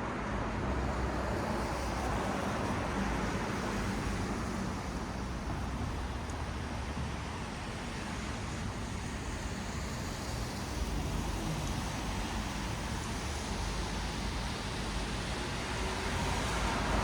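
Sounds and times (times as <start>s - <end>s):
low rumble of engines: 0.0s - 17.0s
tyres hissing on wet road: 0.5s - 17.0s.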